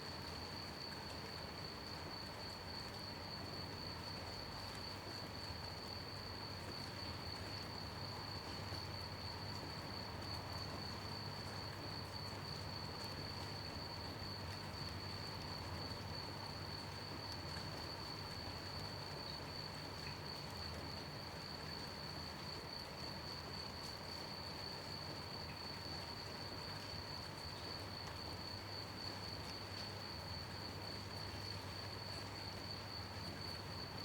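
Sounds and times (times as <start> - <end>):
gentle rain hiss: 0.0 - 34.0
crickets chirping: 0.1 - 34.0.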